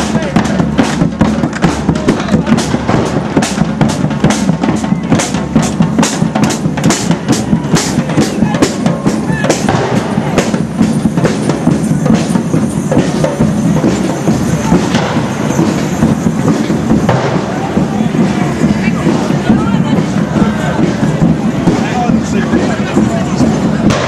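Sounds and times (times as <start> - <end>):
dense background din: 0.0 - 24.0
drums beating march rhythm: 0.0 - 24.0.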